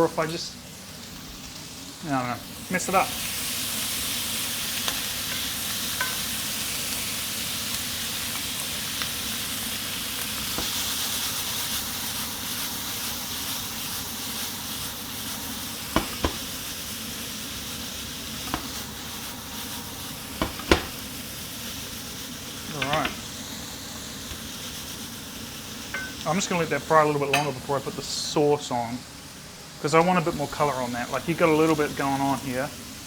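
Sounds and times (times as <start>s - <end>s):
onion sizzling in pan: 0.0s - 33.0s.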